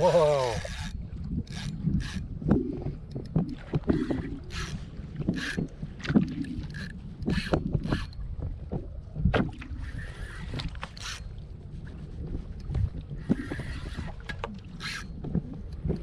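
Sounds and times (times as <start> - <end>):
water splashing against kayak hull: 0.0 - 16.0
wind rumble on microphone: 0.0 - 16.0.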